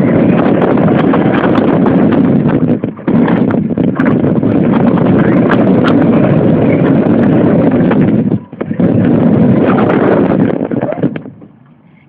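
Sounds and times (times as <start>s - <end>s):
rc car rumble and rattle: 0.0s - 12.0s
wind on microphone: 0.0s - 12.0s.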